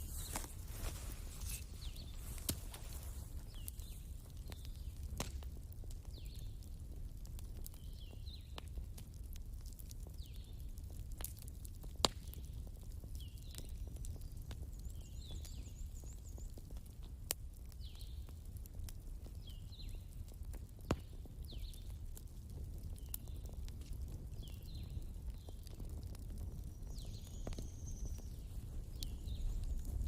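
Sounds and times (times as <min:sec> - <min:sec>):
fire crackling and popping: 0:00.0 - 0:30.0
low rumble of flames: 0:00.0 - 0:30.0.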